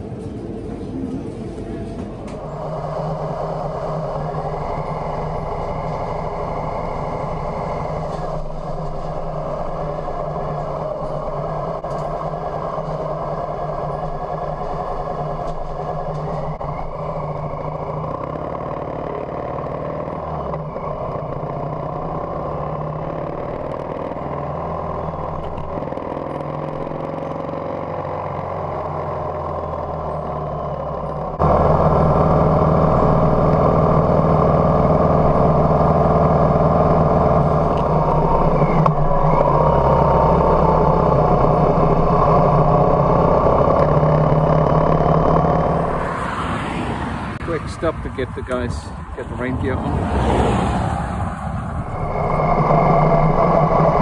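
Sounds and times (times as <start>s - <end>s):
motorcycle engine running: 2.4s - 46.3s, 51.4s - 54.0s.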